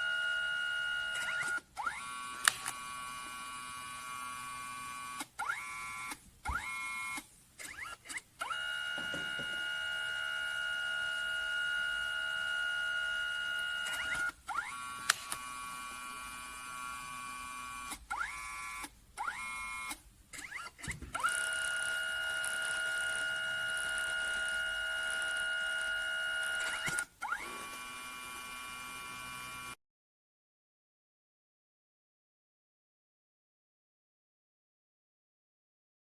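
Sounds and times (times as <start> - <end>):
photo printer motor whine: 0.0 - 29.8.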